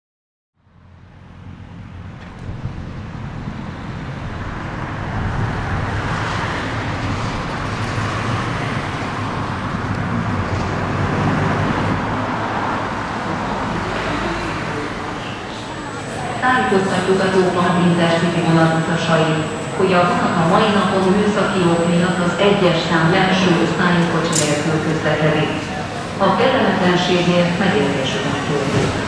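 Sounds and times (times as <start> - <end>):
city street traffic: 0.6 - 29.0.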